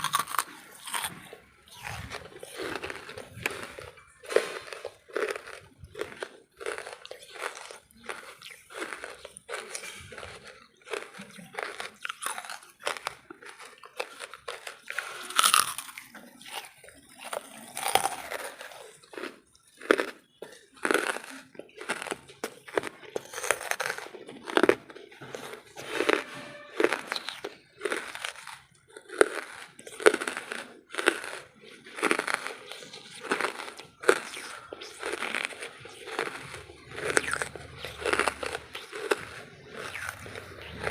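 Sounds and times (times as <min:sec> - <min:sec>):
charcoal being bitten and chewed: 0:00.0 - 0:40.9.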